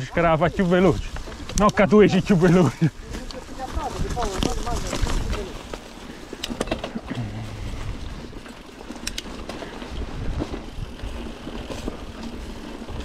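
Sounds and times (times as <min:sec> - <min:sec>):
bike tyres rolling: 0:00.0 - 0:13.0
wind rumbling on microphone: 0:00.0 - 0:13.0
bike chain and frame clicks: 0:01.1 - 0:07.2, 0:08.0 - 0:13.0.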